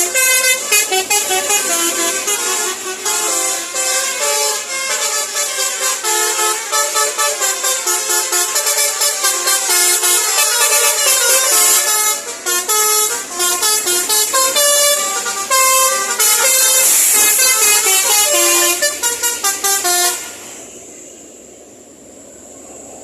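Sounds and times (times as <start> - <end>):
bus multi-tone horn tune: 0.0 - 20.9
vehicle noise: 0.0 - 23.0.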